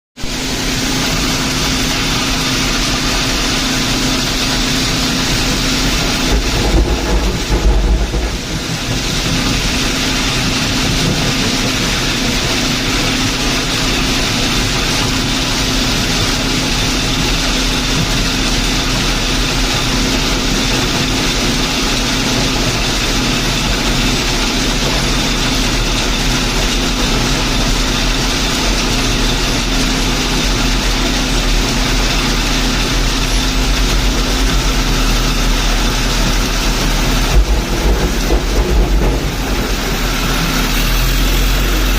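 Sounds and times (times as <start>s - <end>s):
diesel engine rumbling: 0.2s - 41.9s.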